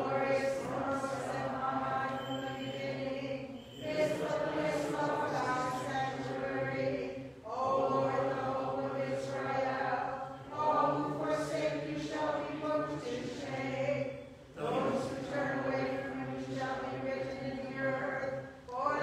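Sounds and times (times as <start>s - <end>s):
voices singing a liturgical chant: 0.0s - 19.0s.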